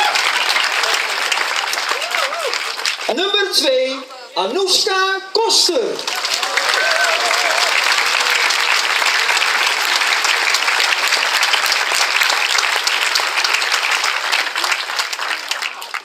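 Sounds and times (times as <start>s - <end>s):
crowd applauding: 0.0s - 3.7s, 6.0s - 16.0s.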